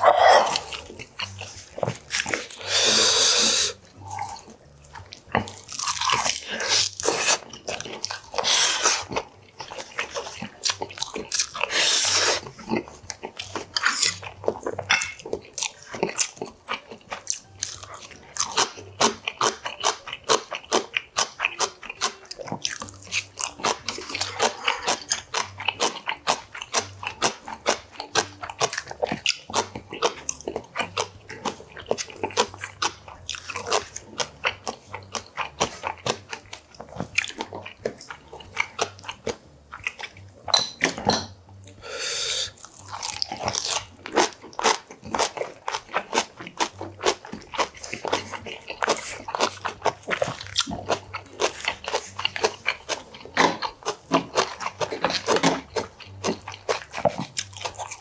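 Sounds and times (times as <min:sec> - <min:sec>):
crunchy chewing: 0:00.0 - 0:58.0.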